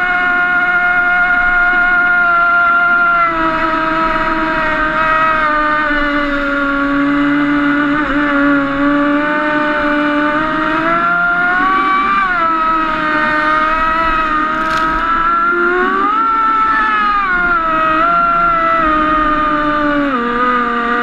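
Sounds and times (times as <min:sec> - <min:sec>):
high-pitched motor whine: 0:00.0 - 0:21.0.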